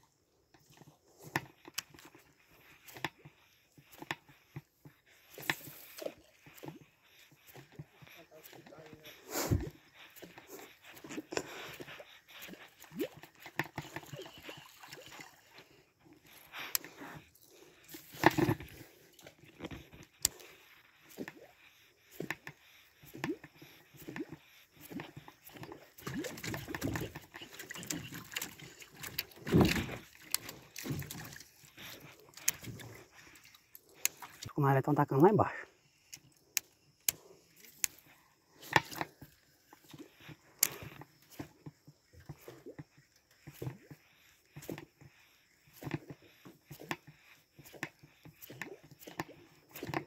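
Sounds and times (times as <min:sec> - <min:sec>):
lure chugging splashes: 0:00.6 - 0:50.0.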